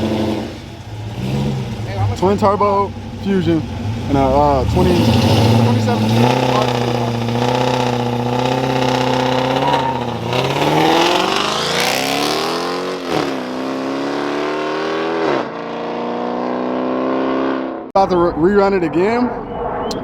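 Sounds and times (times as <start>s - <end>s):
car engine revving and accelerating: 0.0s - 17.9s.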